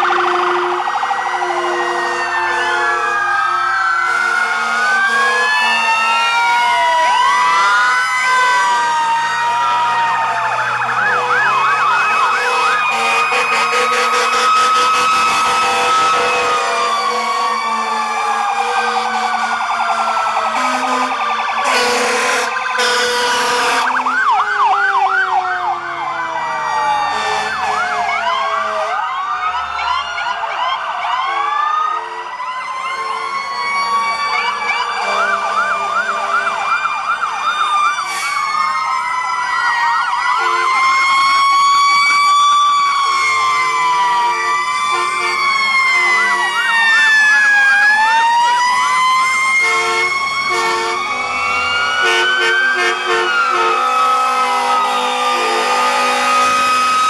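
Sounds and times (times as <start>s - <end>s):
fire truck sirens wailing and yelping: 0.0s - 57.0s
truck engines: 0.0s - 57.0s.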